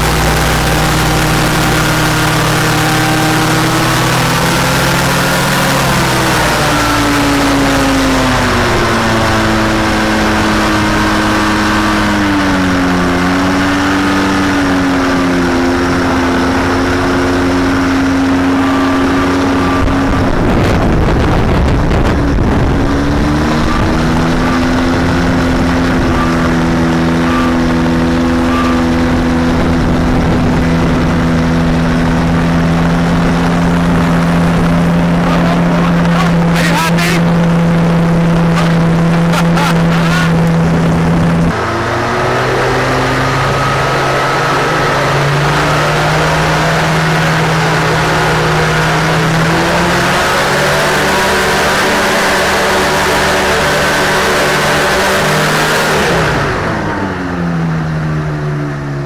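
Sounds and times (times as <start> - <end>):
rushing noise: 0.0 - 59.0
two-stroke engine running: 0.0 - 59.0.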